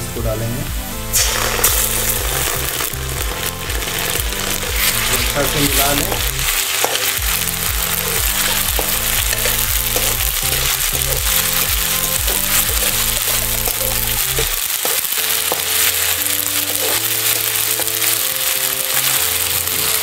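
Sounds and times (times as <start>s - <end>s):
background music: 0.0s - 20.0s
onions sizzling in hot oil: 0.0s - 20.0s.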